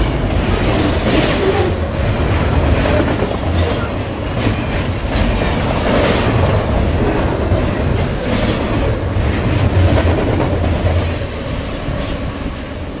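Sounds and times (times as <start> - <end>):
freight train rumbling past: 0.0 - 13.0
wheels clacking over rail joints: 0.0 - 13.0.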